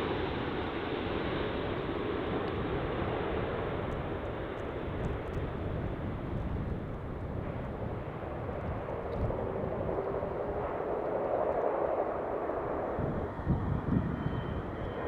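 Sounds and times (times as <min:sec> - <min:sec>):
jet airliner engine rush: 0:00.0 - 0:15.0.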